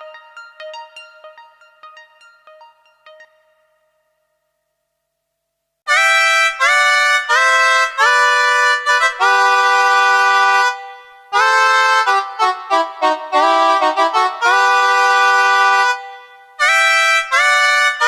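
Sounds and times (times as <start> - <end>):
synthesizer chords: 0.0 - 4.3, 6.3 - 16.4.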